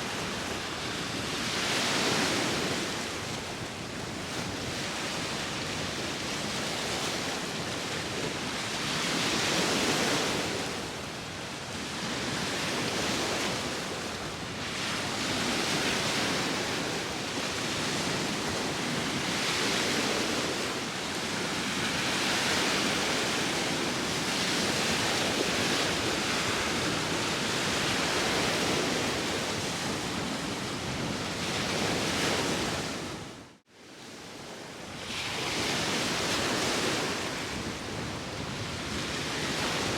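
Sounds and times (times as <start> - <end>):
sea waves washing ashore: 0.0 - 39.9
wind: 0.0 - 39.9.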